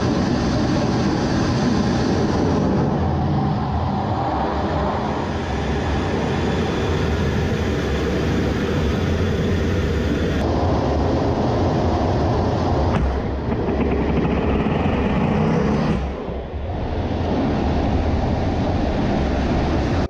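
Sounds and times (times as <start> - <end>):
fighter jet engines roaring: 0.0 - 20.0.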